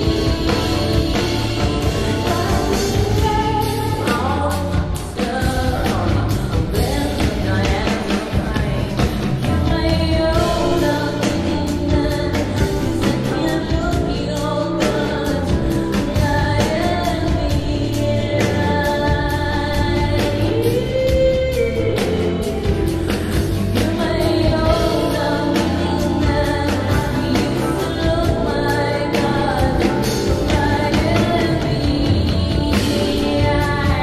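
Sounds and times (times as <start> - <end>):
rock band with drums: 0.0 - 34.0
woman singing: 0.0 - 34.0.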